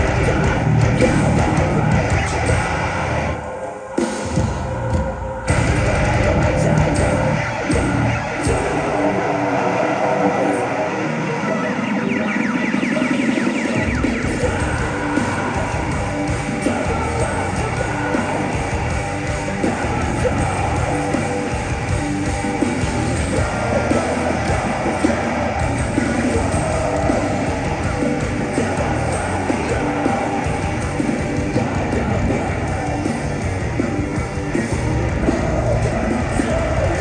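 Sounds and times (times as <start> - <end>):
metalcore band playing live: 0.0 - 37.0.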